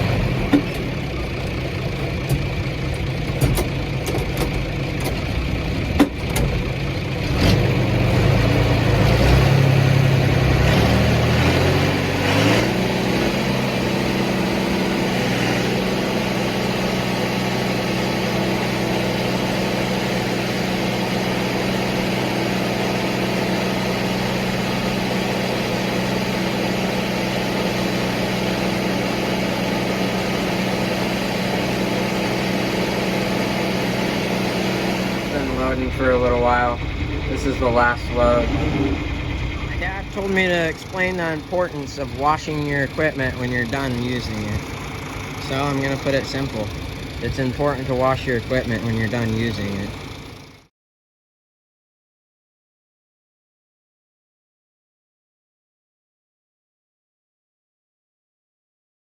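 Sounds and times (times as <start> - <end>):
tractor engine: 0.0 - 50.7.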